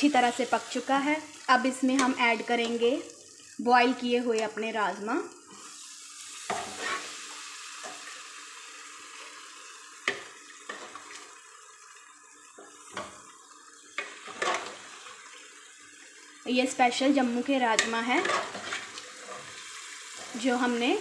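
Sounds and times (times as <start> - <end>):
sauce sizzling in a pan: 0.0 - 21.0.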